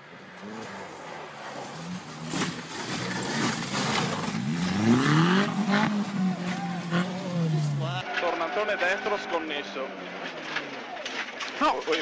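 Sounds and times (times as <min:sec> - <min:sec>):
rally car engine revving: 0:00.4 - 0:11.6.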